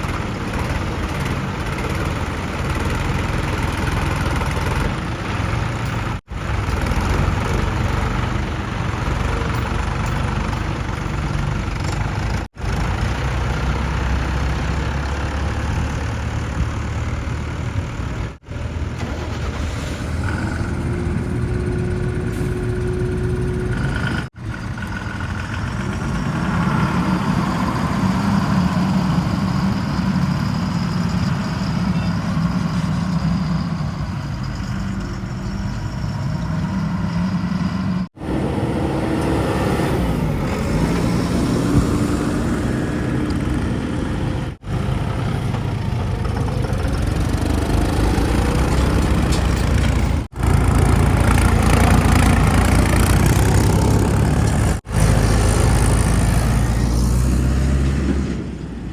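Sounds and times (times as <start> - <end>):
heavy machinery diesel engines: 0.0 - 58.9.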